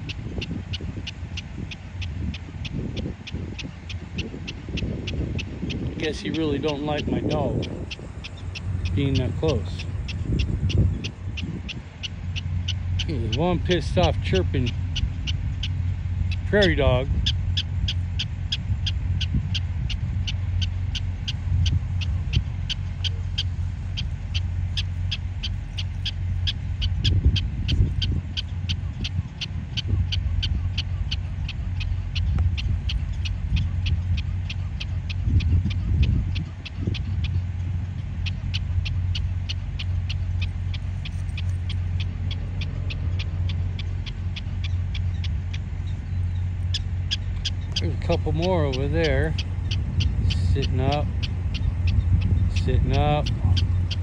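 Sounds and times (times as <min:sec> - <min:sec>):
prairie dog alarm chirps: 0:00.0 - 0:54.0
steady low rumble: 0:00.0 - 0:54.0.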